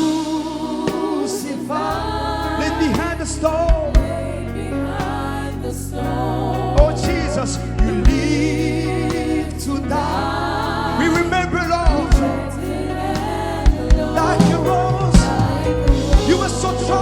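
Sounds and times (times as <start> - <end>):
band backing: 0.0 - 17.0
person singing with vibrato: 0.0 - 17.0.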